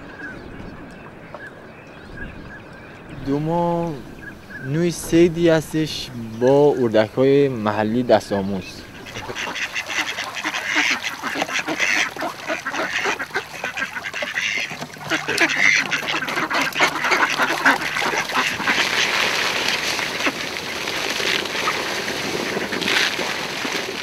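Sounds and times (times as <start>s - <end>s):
ducks quacking: 3.1s - 23.4s.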